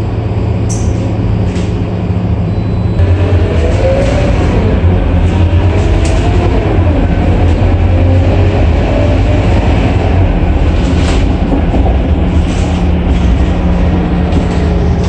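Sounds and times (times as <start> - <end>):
bus engine drone: 0.0 - 15.0
bus body rattles: 0.5 - 2.5, 3.6 - 15.0.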